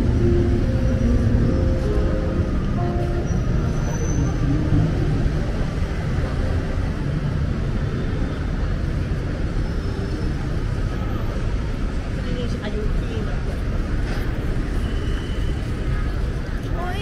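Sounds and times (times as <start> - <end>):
city street rumble: 0.0 - 17.0.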